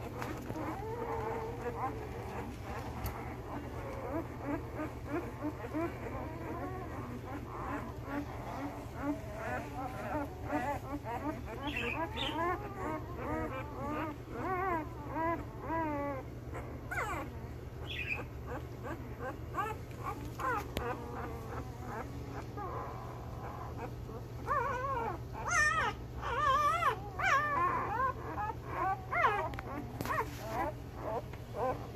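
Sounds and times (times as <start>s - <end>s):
puppies whimpering and squeaking: 0.0s - 31.9s
steady low hum: 0.0s - 31.9s.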